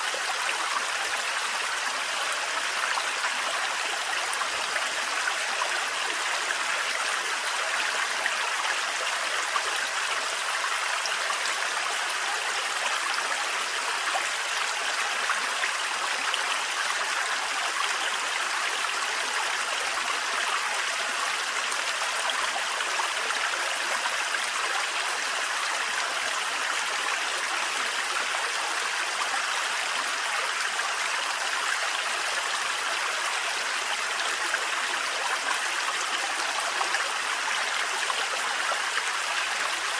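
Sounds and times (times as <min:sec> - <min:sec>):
waterfall over rocks: 0:00.0 - 0:39.9.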